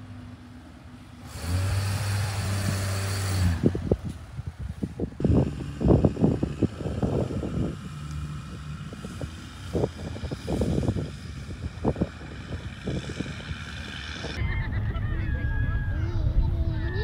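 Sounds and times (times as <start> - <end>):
faint engine hum: 0.0 - 17.0
wind buffeting microphone: 1.5 - 17.0.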